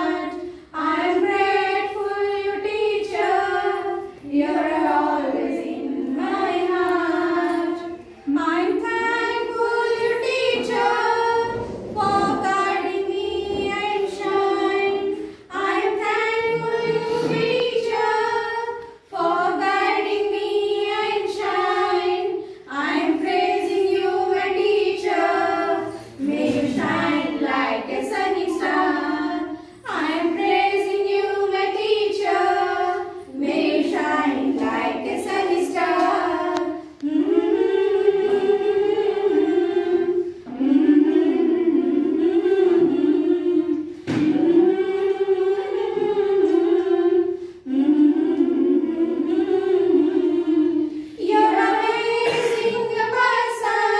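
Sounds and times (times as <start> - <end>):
women singing together: 0.0 - 53.9.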